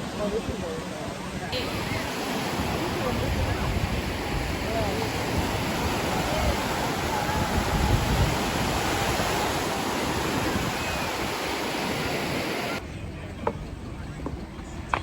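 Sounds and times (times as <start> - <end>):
surf washing on beach: 0.0 - 12.8
faint distant voices: 0.0 - 15.0
wind: 0.0 - 15.0.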